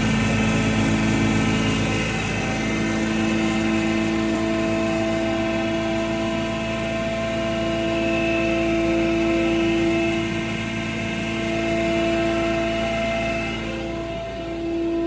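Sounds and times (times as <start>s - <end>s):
machine humming and grinding: 0.0s - 15.0s.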